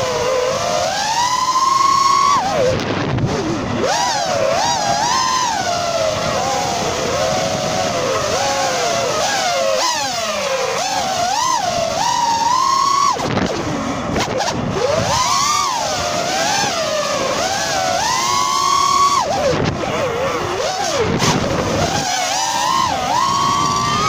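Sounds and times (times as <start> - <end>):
drone motors whining: 0.0 - 24.0
rush of prop wash: 0.0 - 24.0.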